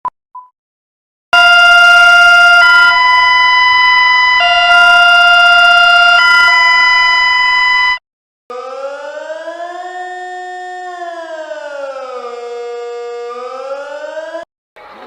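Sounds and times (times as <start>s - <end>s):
emergency alert alarm tone: 1.4s - 14.5s.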